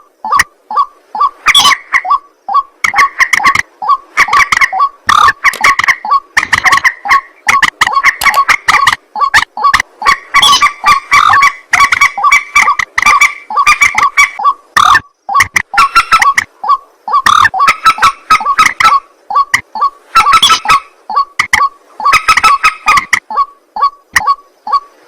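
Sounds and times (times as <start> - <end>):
birds calling harsh repeated notes: 0.0 - 25.0.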